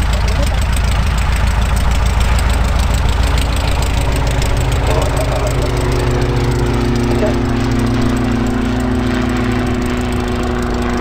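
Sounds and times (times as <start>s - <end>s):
aircraft engine and propeller running: 0.0s - 11.0s
steady humming drone: 0.0s - 11.0s.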